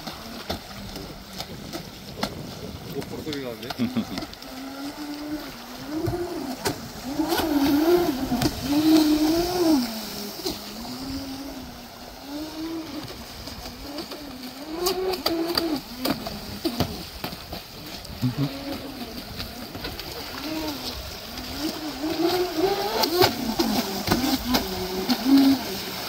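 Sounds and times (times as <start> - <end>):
model speedboat motor whine: 0.0 - 26.0.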